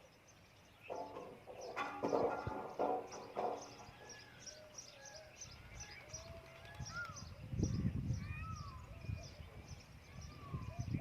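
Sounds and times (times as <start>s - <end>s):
harsh bird calls: 0.0s - 11.0s.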